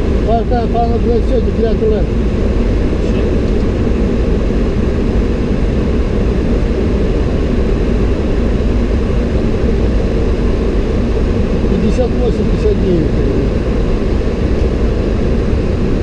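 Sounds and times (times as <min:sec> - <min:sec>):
airflow and engines rushing: 0:00.0 - 0:16.0.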